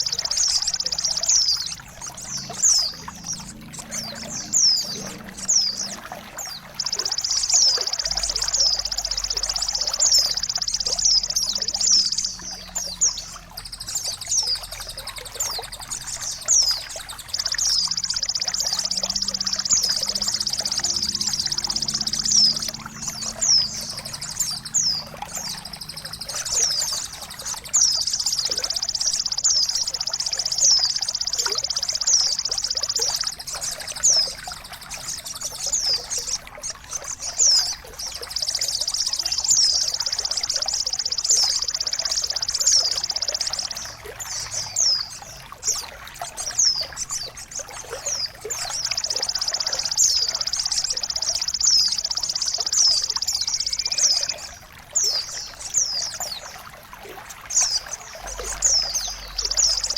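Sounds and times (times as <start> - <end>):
downward-sweeping bird chirps: 0.0 - 59.9
rapid high bird trills: 0.0 - 59.9.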